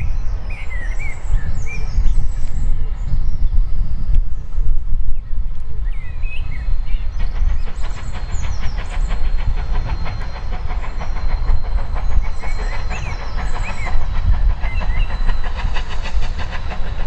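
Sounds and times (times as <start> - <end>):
low train rumble: 0.0 - 17.0
steam locomotive exhaust beats: 0.0 - 17.0.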